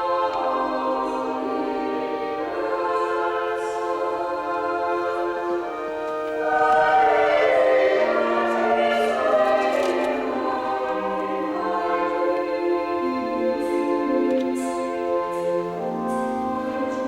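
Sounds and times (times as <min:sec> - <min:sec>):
church choir singing held chords: 0:00.0 - 0:17.0.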